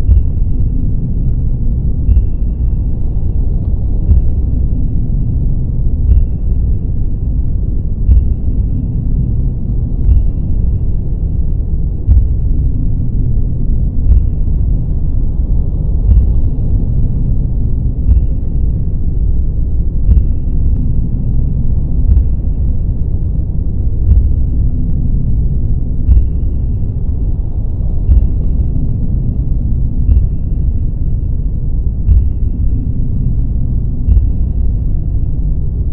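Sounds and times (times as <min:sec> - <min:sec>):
deep rumbling white noise: 0:00.0 - 0:35.9.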